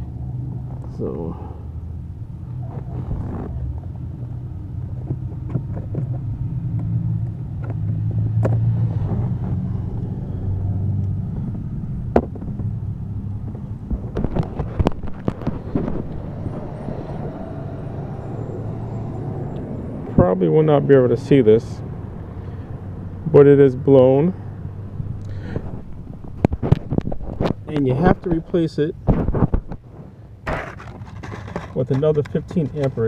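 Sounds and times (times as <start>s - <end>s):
steady low rumble: 0.0s - 31.5s.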